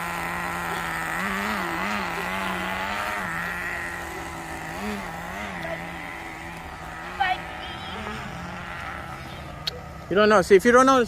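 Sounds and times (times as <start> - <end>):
engine throttle blips: 0.0 - 11.0
small two-stroke engine buzzing: 0.0 - 11.0.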